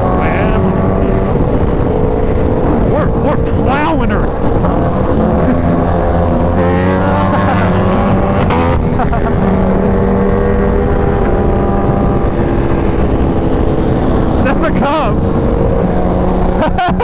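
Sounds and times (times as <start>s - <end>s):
motorcycle engine accelerating: 0.0s - 17.0s
rush of wind: 0.0s - 17.0s.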